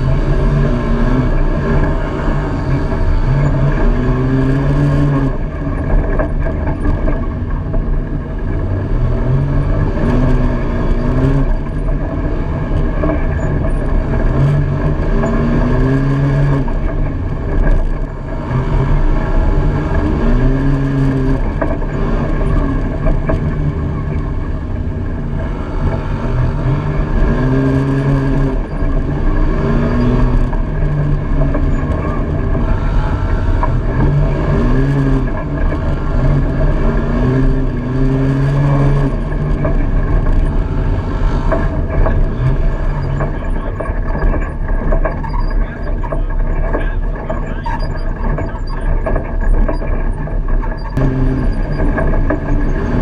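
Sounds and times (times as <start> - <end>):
road and wind noise: 0.0 - 53.0
vehicle engine revving: 0.0 - 53.0.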